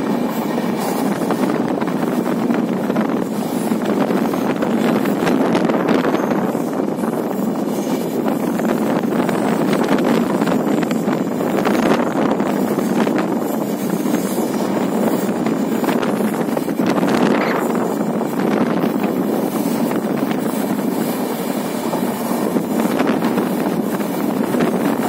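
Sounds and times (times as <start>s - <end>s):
train rumbling on track: 0.0s - 25.0s
wind buffeting microphone: 0.0s - 25.0s.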